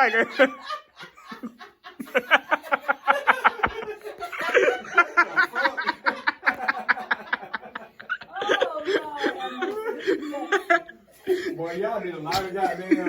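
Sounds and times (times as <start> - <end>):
people laughing hard: 0.0 - 13.0.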